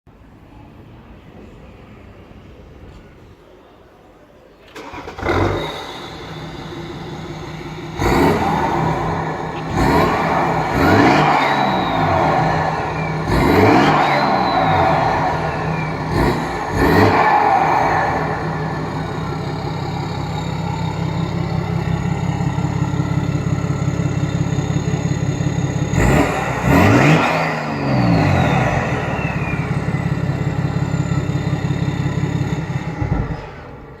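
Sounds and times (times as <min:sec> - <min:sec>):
diesel engine idling and revving: 0:04.7 - 0:34.0.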